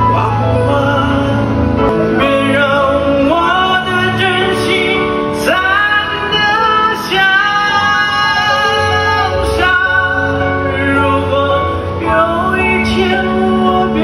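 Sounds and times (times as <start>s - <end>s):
backing track: 0.0s - 14.0s
man singing pop ballad: 0.0s - 14.0s.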